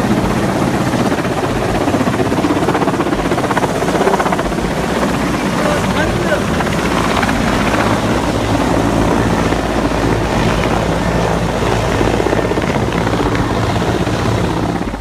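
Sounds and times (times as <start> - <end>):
helicopter rotor beating: 0.0 - 15.0
helicopter turbines: 0.0 - 15.0.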